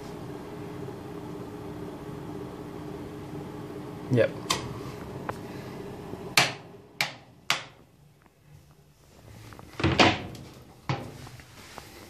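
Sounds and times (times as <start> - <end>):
heater fan hum: 0.0 - 12.0.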